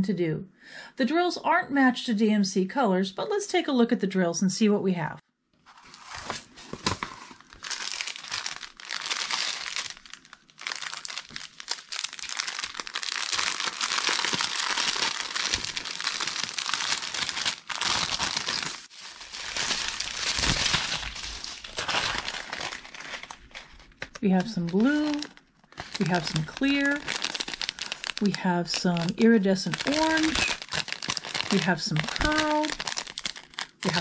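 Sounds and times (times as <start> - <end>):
plastic packaging crinkling: 5.7 - 34.0.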